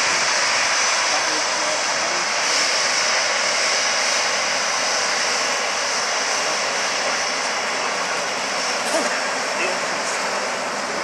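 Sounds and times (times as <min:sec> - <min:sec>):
jet engines whining at taxi power: 0:00.0 - 0:11.0.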